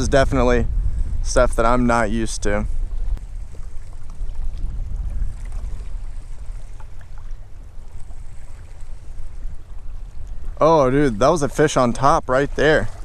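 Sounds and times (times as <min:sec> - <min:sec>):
wind buffeting microphone: 0:00.0 - 0:13.0
water lapping against boat: 0:01.3 - 0:13.0.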